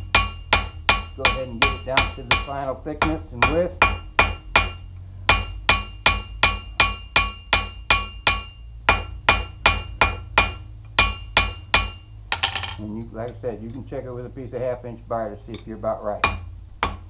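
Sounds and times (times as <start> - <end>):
hammer striking steel on anvil: 0.0 - 13.9, 15.5 - 17.0.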